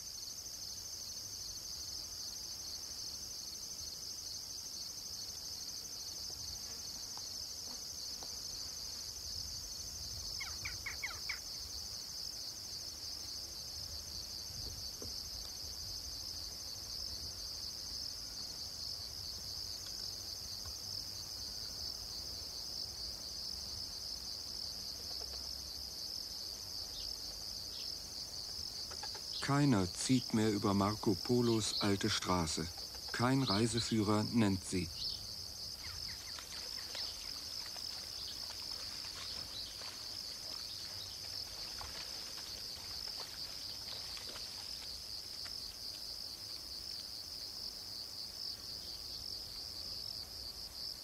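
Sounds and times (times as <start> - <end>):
insects chorus: 0.0 - 51.0.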